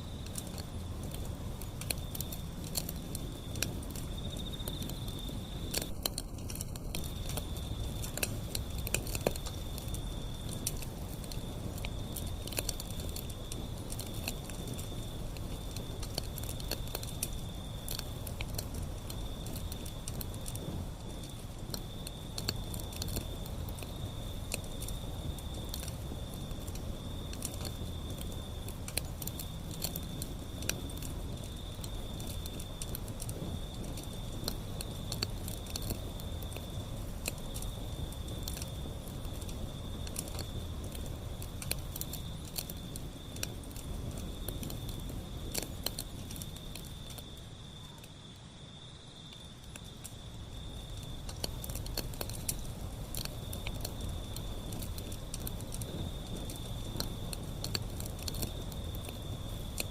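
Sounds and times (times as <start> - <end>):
fire crackling and popping: 0.0 - 59.9
wood fire flames rumbling: 0.0 - 59.9.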